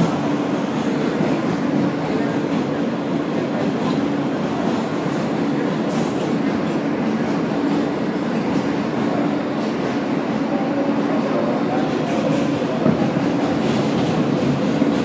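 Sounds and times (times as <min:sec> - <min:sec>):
subway wheels rumbling on rails: 0:00.0 - 0:15.0.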